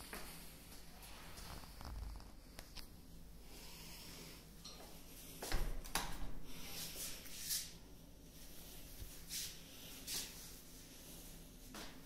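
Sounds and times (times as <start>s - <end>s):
soft brushing sounds: 0.0s - 5.4s, 6.5s - 12.0s.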